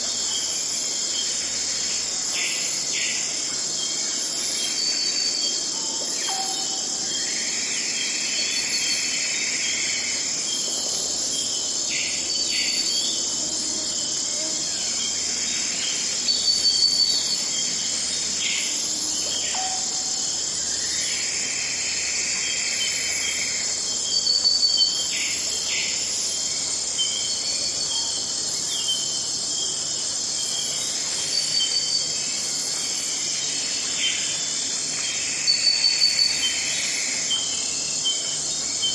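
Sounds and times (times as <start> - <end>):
chorus of high-pitched insects: 0.0 - 38.9.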